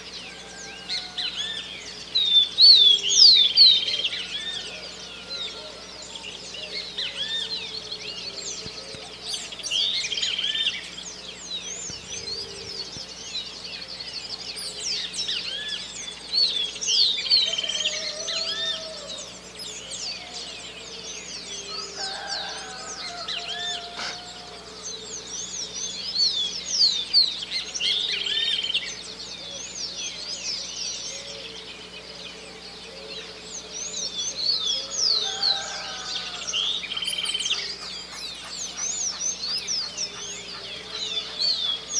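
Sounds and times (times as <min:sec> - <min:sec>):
birds chirping and singing: 0:00.0 - 0:41.9
lower bird calls: 0:00.0 - 0:41.9.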